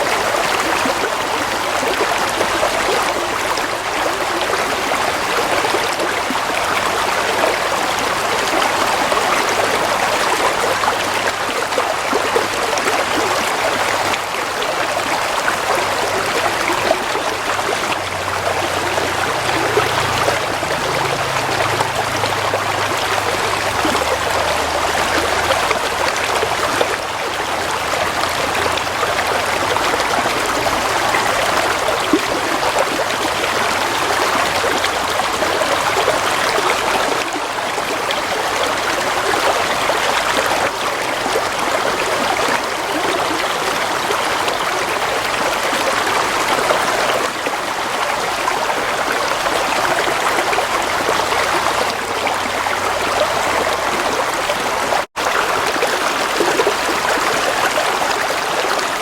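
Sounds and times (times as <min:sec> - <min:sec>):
stream of water trickling: 0:00.0 - 0:59.0.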